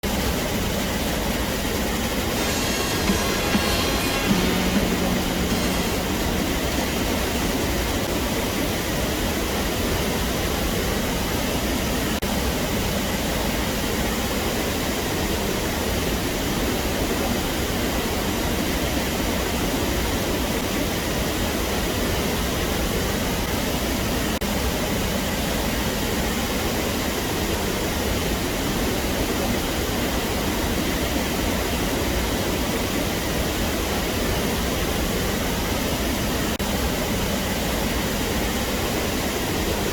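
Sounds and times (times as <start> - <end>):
stream rushing: 0.1 - 39.9.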